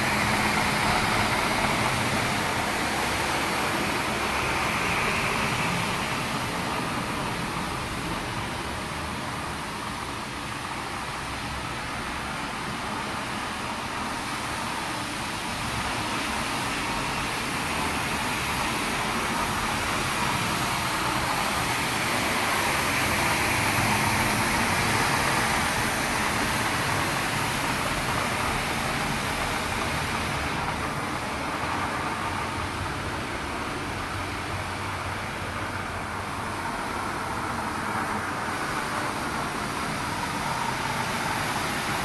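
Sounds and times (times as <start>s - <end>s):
floor scrubber running: 0.0s - 9.9s, 15.6s - 42.0s.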